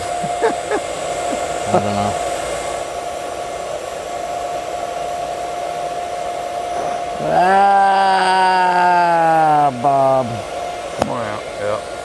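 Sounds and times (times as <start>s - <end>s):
welding arc hissing: 0.0s - 12.0s.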